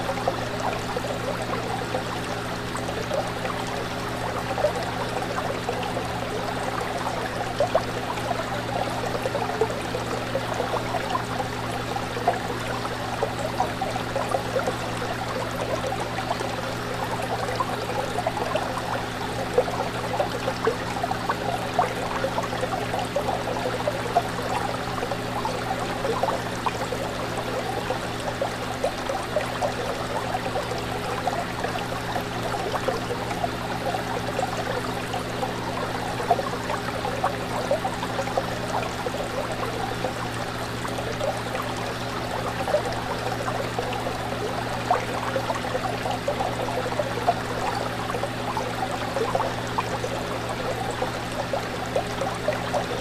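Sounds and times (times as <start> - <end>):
aquarium water bubbling: 0.0 - 53.0
tank pump hum: 0.0 - 53.0.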